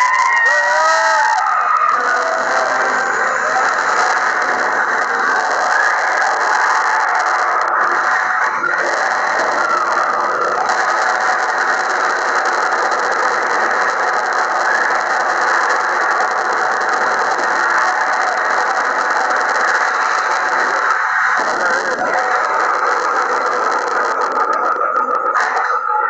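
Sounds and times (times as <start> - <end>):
mechanical clattering and whirring: 1.6 - 26.0.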